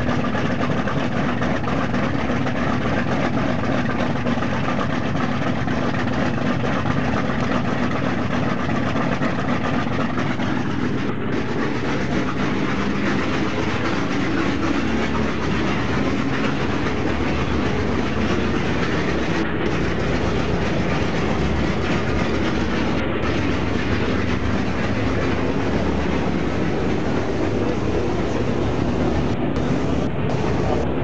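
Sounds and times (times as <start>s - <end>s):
radial piston engine running: 0.0s - 31.0s.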